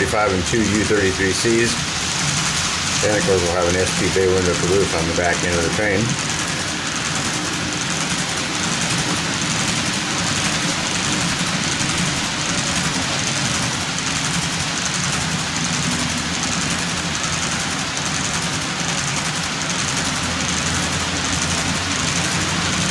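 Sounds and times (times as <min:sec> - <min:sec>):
low motor hum: 0:00.0 - 0:22.9
model train wheels rumbling: 0:00.0 - 0:22.9.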